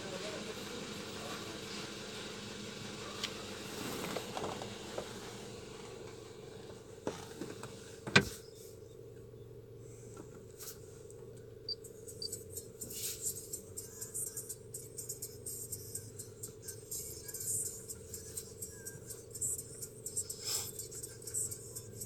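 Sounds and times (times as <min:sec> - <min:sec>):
low hum inside a car: 0:00.0 - 0:22.0.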